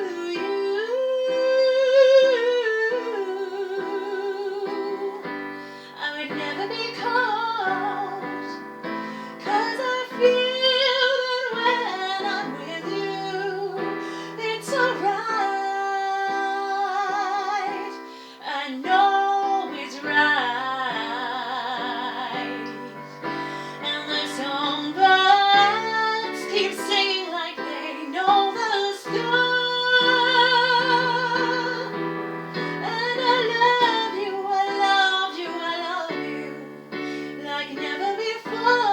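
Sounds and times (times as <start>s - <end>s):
piano accompaniment: 0.0s - 38.9s
woman singing a slow ballad: 0.0s - 38.9s.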